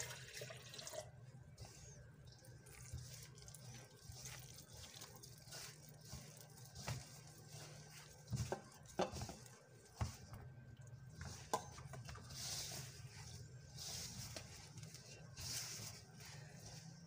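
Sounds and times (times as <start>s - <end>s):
hand rubbing dough: 1.3s - 17.0s.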